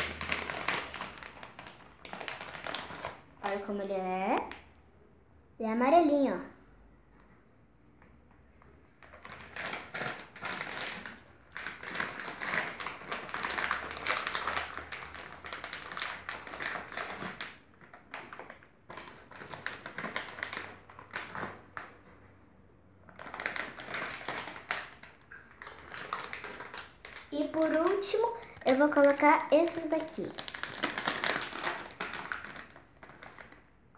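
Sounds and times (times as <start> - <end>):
plastic packaging crinkling: 0.0 - 3.8, 8.9 - 22.2, 23.0 - 33.8.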